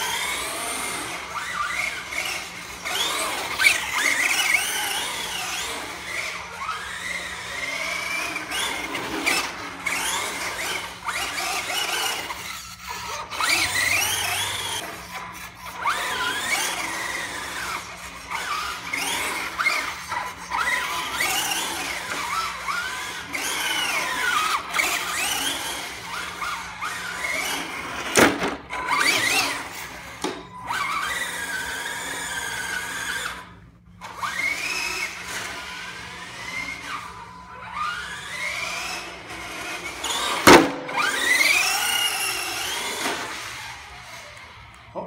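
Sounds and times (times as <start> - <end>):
tyres squealing on concrete: 0.0 - 33.5, 34.1 - 45.0
rc truck motor whining: 0.0 - 45.0.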